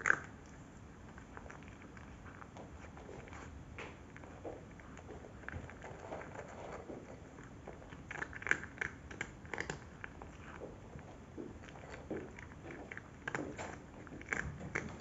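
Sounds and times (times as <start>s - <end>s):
cat chewing dry kibble: 0.0s - 15.0s.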